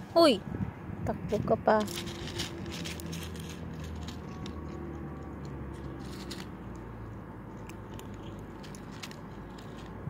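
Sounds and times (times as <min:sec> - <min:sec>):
cat crunching dry kibble: 0:01.8 - 0:10.0.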